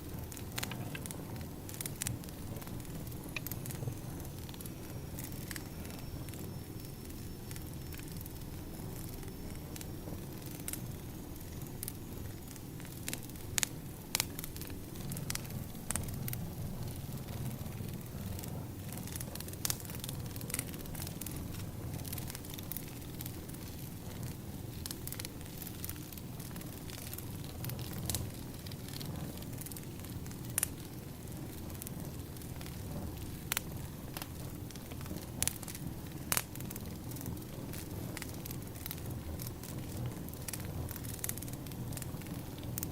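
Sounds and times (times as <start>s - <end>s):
fire low rumble: 0.0s - 42.9s
wood fire crackling and popping: 0.0s - 42.9s.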